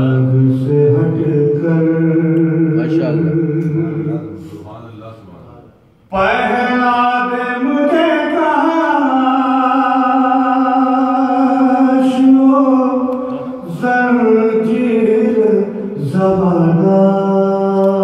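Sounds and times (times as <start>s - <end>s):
man singing unaccompanied: 0.0s - 4.4s, 6.1s - 18.0s.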